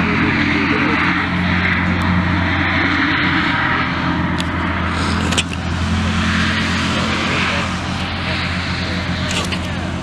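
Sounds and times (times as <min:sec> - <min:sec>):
hovercraft engine and fan droning: 0:00.0 - 0:10.0.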